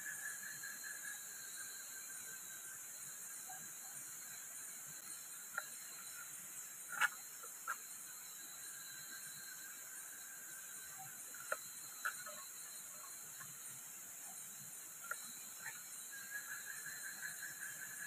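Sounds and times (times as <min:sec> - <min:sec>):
night insects hissing: 0:00.0 - 0:18.0.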